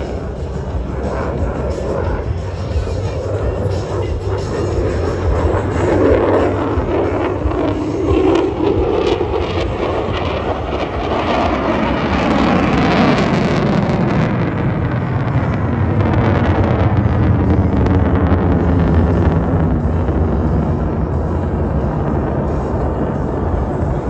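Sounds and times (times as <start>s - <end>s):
aircraft engine flying past: 0.0s - 24.0s.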